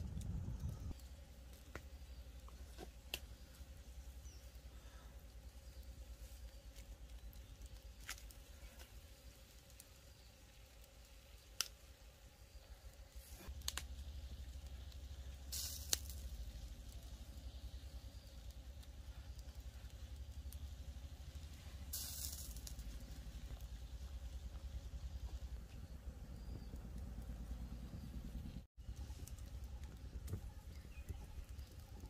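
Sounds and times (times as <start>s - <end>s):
campfire pops and crackles: 0.0s - 32.0s
low fire rumble: 0.0s - 32.0s.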